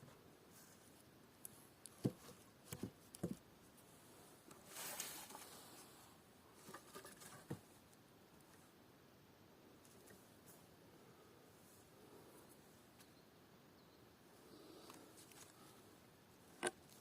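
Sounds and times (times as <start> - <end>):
soft rustle: 0.0 - 8.8, 9.8 - 13.2, 14.3 - 17.0.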